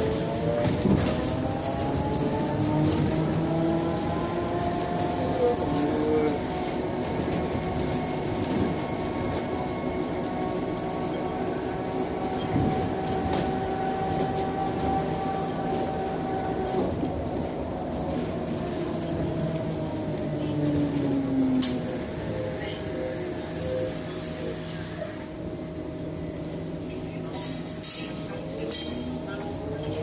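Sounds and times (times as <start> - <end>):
bus rumble and rattle: 0.0 - 30.0.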